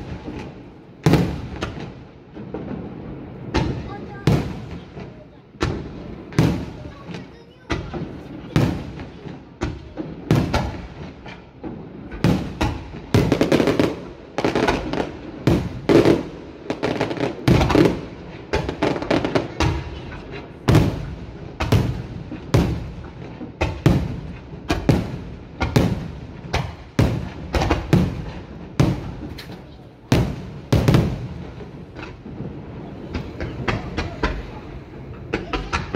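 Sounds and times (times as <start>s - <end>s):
firework shells bursting: 0.0s - 35.9s.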